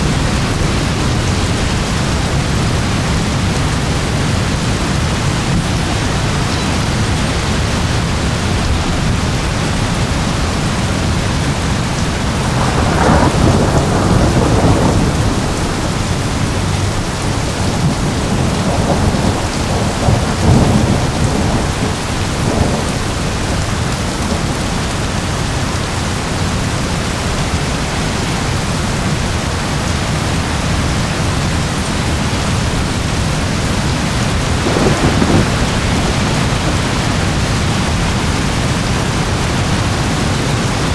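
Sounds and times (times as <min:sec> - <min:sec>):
thunder rumbling: 0:00.0 - 0:26.1, 0:30.2 - 0:40.9
steady rain falling: 0:00.0 - 0:40.9.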